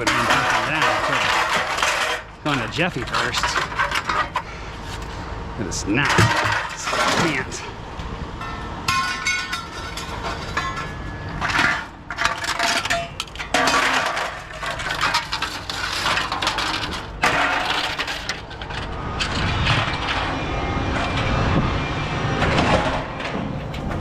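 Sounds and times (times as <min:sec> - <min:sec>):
scrap metal clattering and crashing: 0:00.0 - 0:07.7, 0:08.4 - 0:21.3, 0:22.3 - 0:24.0.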